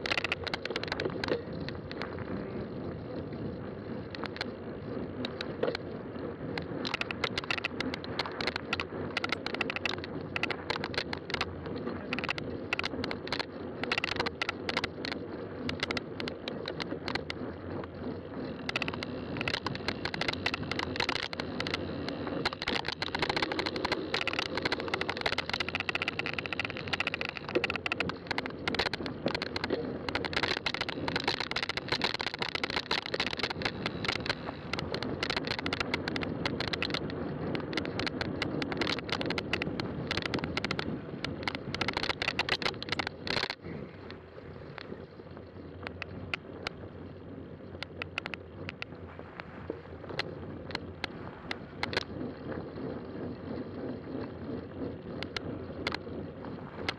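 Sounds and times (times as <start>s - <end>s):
bike clicking and rattling: 0.0s - 56.9s
bike tyres rolling on trail: 0.0s - 56.9s.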